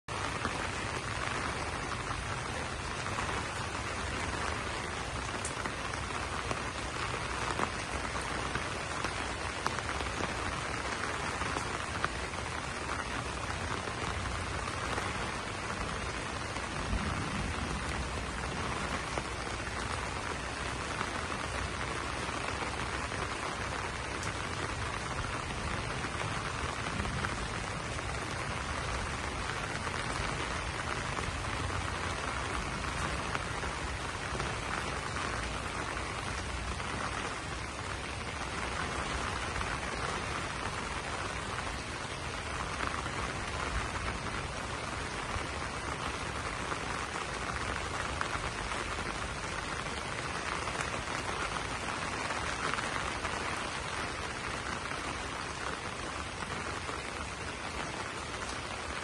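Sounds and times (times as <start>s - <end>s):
rain on leaves: 0.0s - 59.0s.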